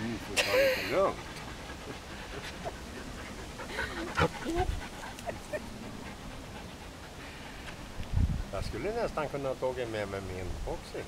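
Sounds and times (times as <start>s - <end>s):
dog panting: 0.0s - 9.1s.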